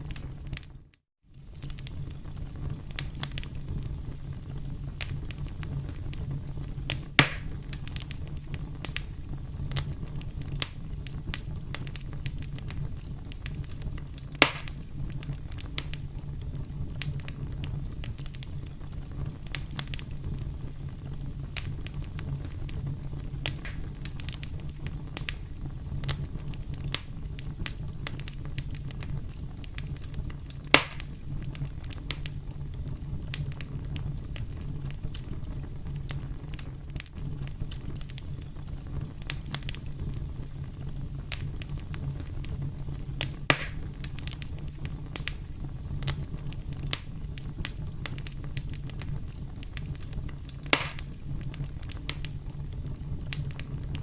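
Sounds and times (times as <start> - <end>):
campfire crackling: 0.0 - 54.0
loud fire snaps: 0.0 - 54.0
low fire rumble: 0.0 - 54.0.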